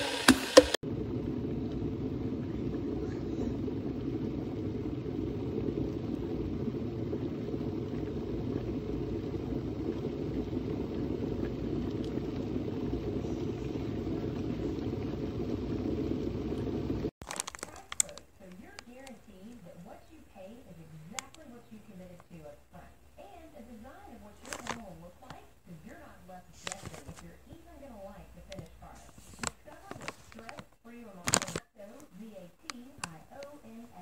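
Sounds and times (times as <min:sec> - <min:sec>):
kettle heating water rumble: 0:00.0 - 0:34.0.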